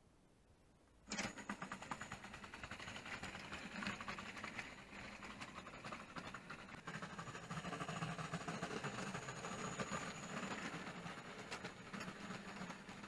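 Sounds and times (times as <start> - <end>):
wheels clicking on rails: 1.1 - 13.0.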